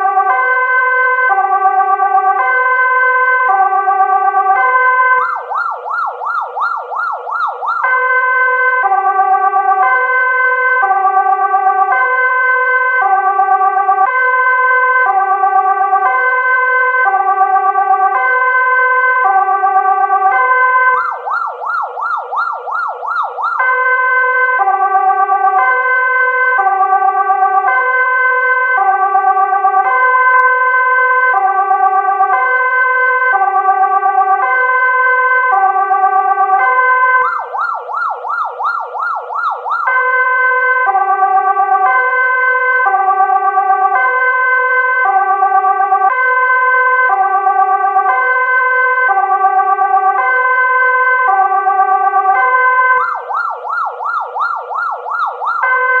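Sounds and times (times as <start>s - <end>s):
ambulance siren: 0.0s - 56.0s.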